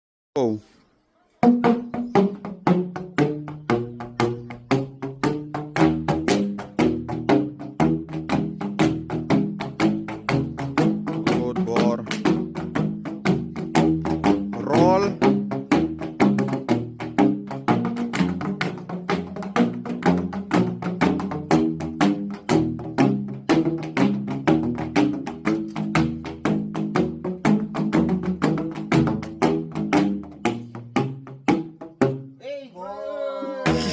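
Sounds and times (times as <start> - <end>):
bamboo tubes struck rhythmically: 1.4 - 32.4, 33.6 - 33.9.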